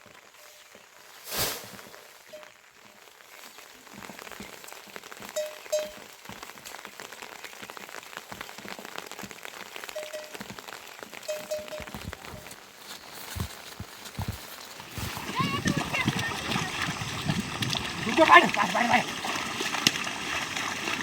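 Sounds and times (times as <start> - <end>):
rain patter: 1.9 - 21.0.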